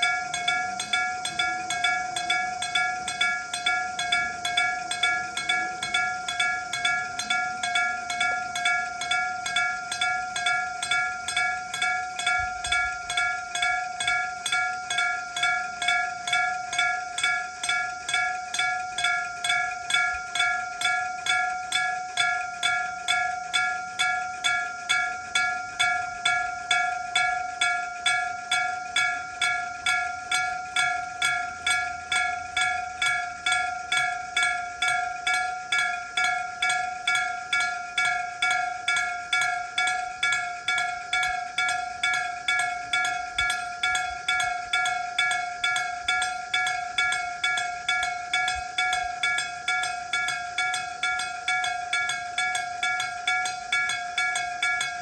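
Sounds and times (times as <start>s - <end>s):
level crossing warning bell ringing: 0.0s - 55.0s.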